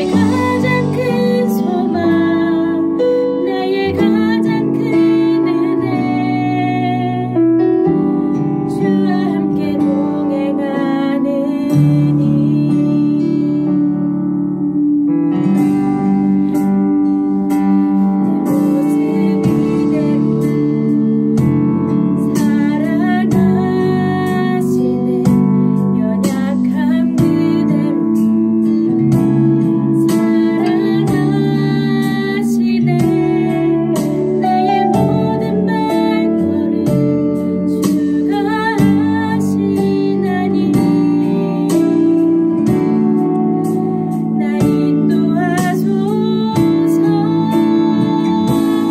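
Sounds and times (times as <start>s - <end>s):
person singing with vibrato: 0.0s - 14.0s, 22.2s - 48.9s
keyboard chords: 0.0s - 48.9s.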